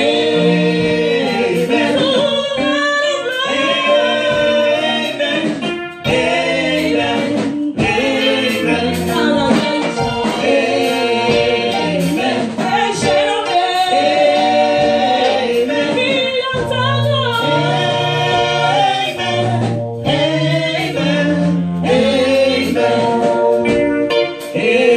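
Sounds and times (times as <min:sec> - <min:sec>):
women singing gospel in harmony: 0:00.0 - 0:24.9.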